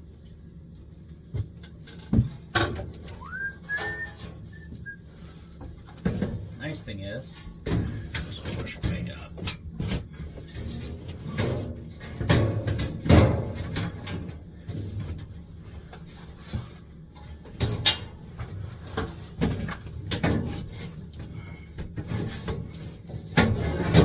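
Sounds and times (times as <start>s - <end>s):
metal knocks and scraping: 1.4s - 21.1s, 21.8s - 24.0s.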